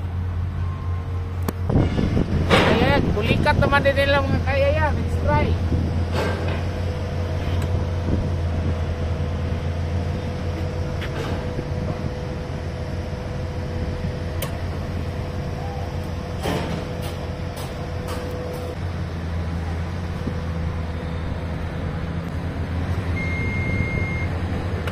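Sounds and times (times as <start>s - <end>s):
engine drone: 0.0s - 24.9s.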